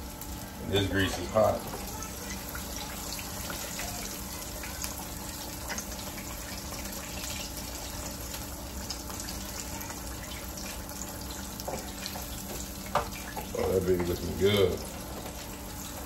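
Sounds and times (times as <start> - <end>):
meat deep-frying in hot oil: 0.0 - 16.0.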